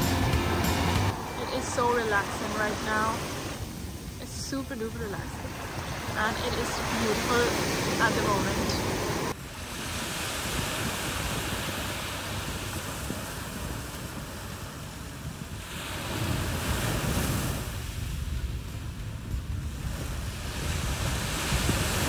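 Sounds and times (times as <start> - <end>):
sea waves washing on beach: 0.0 - 22.0
wind rumbling on microphone: 0.0 - 22.0.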